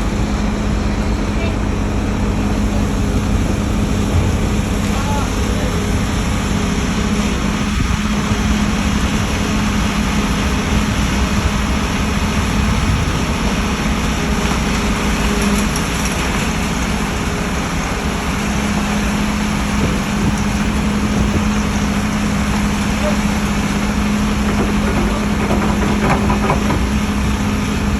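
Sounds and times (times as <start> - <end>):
diesel engine running: 0.0 - 27.9
loud mechanical noise: 0.0 - 27.9.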